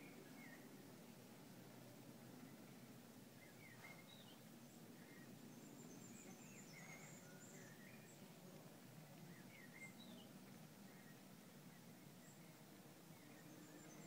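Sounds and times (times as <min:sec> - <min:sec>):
faint background hiss: 0:00.0 - 0:14.0
distant birdsong chirps: 0:02.4 - 0:14.0.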